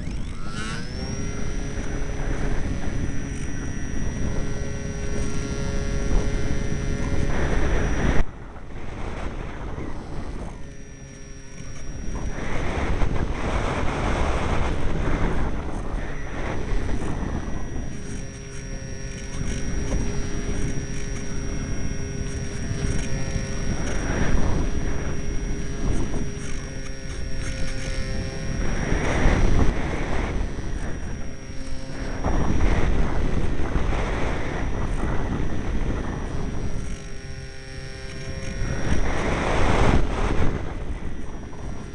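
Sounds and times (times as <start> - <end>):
faint high whine: 0.0 - 41.9
strong wind buffeting microphone: 0.0 - 41.9.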